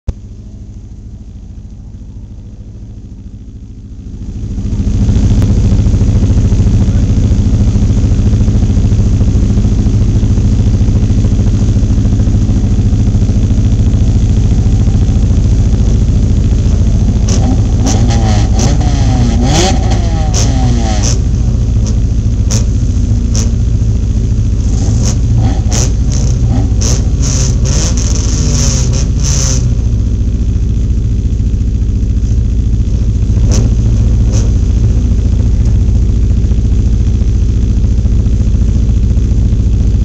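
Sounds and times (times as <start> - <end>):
stock car engine idling: 0.1 - 40.0
engines revving: 4.1 - 30.6, 32.2 - 37.7.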